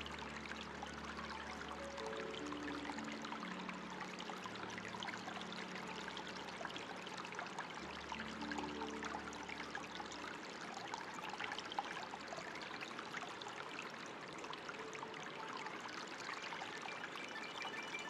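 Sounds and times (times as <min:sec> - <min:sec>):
soft musical tones: 0:00.0 - 0:18.0
water trickling and splashing: 0:00.0 - 0:18.0.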